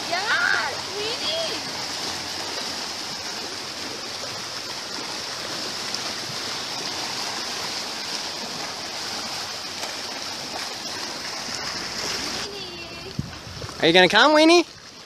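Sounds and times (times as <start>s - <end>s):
waves lapping over rocks: 0.0s - 15.0s.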